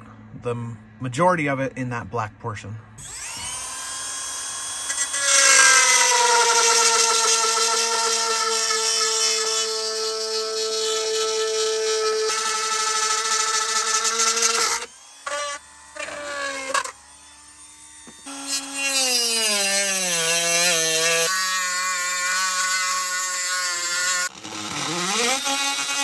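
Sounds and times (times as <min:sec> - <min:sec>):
rotary tool motor whine: 0:03.0 - 0:26.0.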